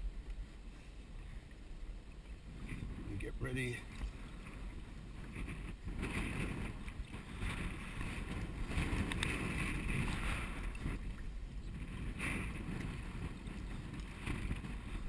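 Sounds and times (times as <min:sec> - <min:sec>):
wind rumbling on microphone: 0:00.0 - 0:15.0
water splashing against kayak hull: 0:00.6 - 0:15.0.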